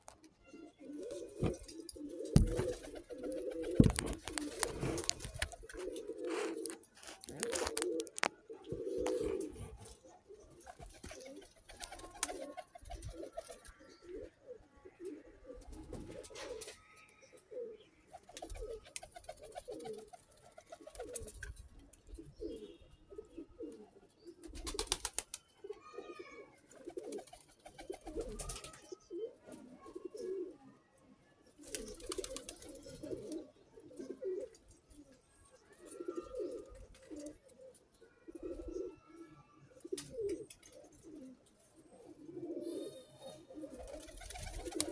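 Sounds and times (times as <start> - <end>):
pigeons cooing: 0.6 - 21.4, 22.1 - 30.7, 31.6 - 44.9.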